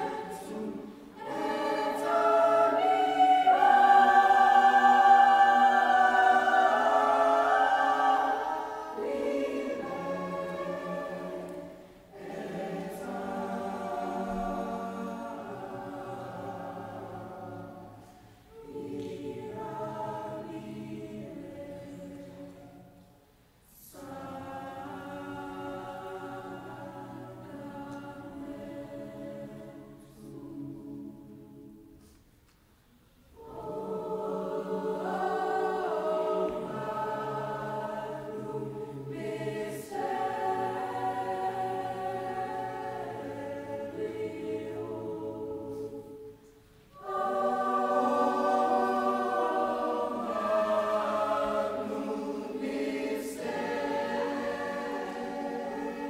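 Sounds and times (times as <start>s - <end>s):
mixed choir singing: 0.0s - 32.2s, 33.2s - 56.0s.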